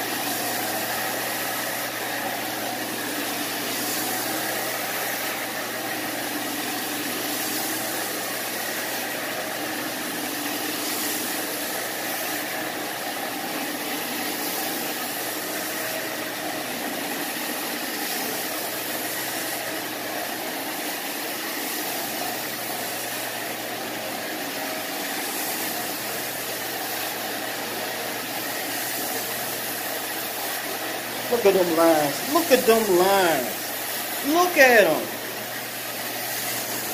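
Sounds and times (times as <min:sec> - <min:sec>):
hiss: 0:00.0 - 0:31.2, 0:35.6 - 0:36.9
vacuum motor running: 0:00.0 - 0:36.9.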